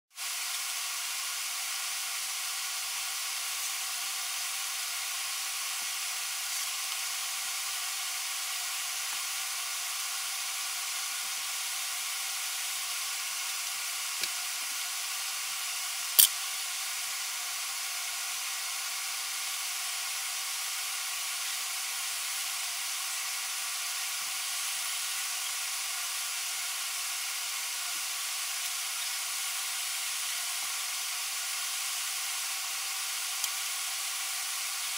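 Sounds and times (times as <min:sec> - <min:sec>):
steady hiss: 0:00.2 - 0:34.9.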